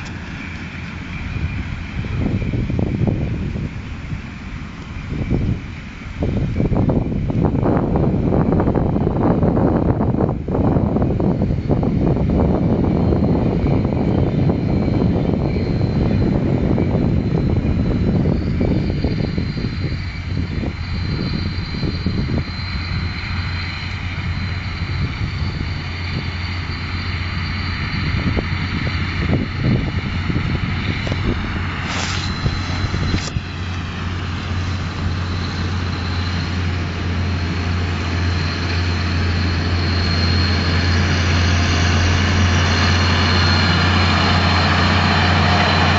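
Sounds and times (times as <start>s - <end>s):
tractor engine hum: 0.0s - 45.9s
wind buffeting microphone: 0.0s - 45.9s.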